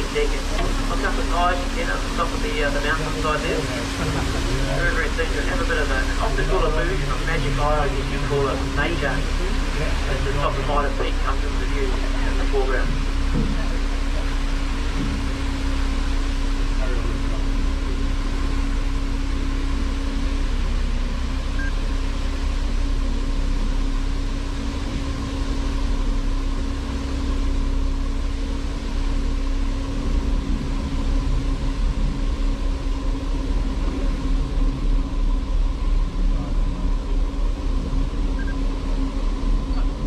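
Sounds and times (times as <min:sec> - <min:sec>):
boat engines rumbling: 0:00.0 - 0:40.0.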